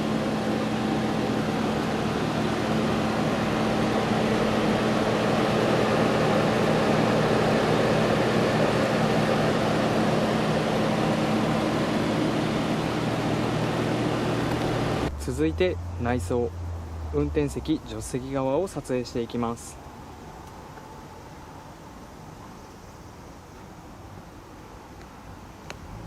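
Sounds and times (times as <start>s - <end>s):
mechanical hum with low drone: 0.0s - 26.0s.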